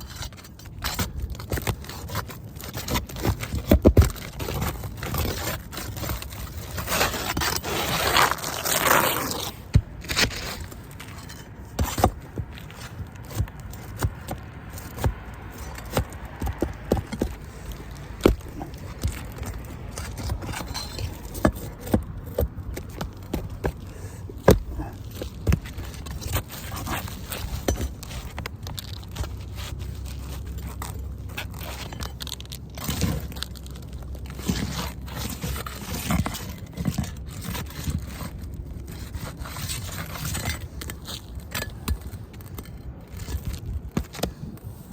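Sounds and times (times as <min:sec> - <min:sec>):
scraping roof shingles: 0:00.0 - 0:44.9.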